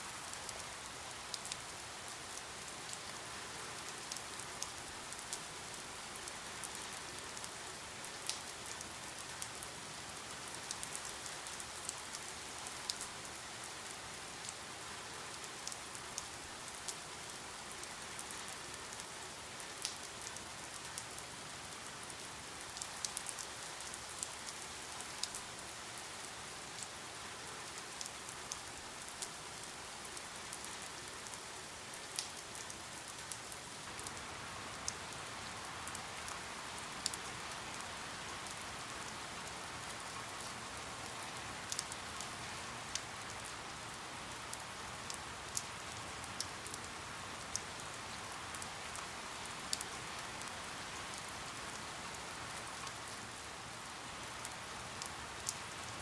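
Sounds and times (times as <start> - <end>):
steady rain hiss: 0.0 - 56.0
raindrops striking a surface: 3.8 - 14.6, 15.5 - 27.0, 27.7 - 53.8.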